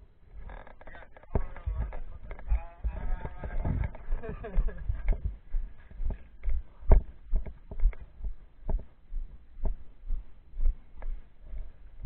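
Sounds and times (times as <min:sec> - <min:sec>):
irregular knocks and thumps: 0:00.3 - 0:11.7.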